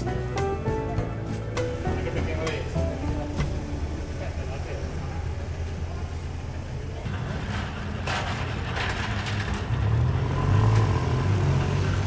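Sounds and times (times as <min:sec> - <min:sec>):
low rumble of traffic: 0:00.0 - 0:12.0
vehicle engine running close: 0:00.0 - 0:12.0.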